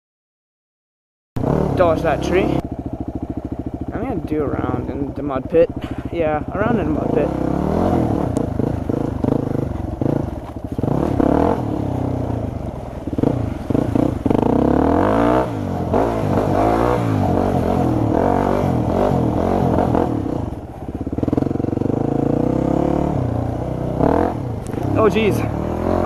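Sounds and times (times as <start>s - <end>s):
dirt bike engine revving: 1.4s - 26.0s.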